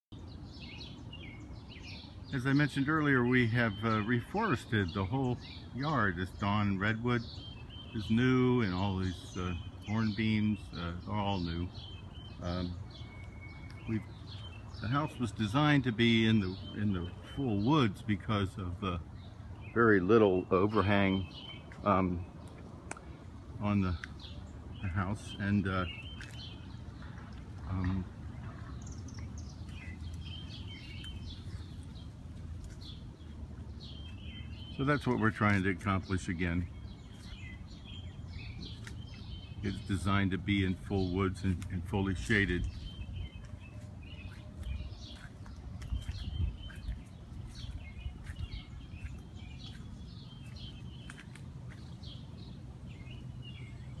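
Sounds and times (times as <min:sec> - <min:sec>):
small birds chirping: 0:00.0 - 0:54.0
low outdoor rumble: 0:00.1 - 0:54.0.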